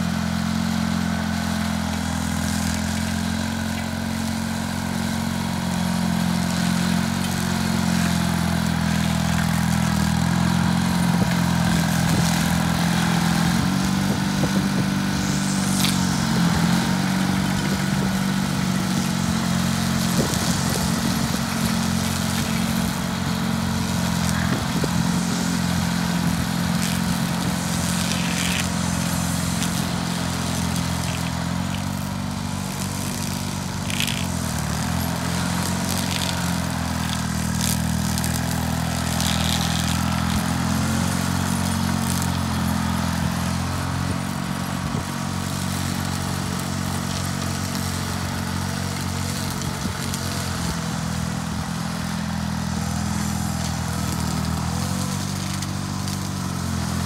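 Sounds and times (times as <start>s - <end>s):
bulldozer engine running: 0.0s - 57.0s.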